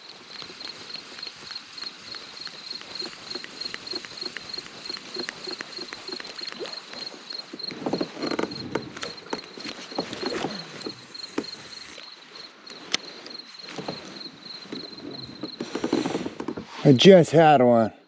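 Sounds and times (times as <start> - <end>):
faint regular clicks: 0.0 - 16.6
crickets chirping: 0.0 - 18.0.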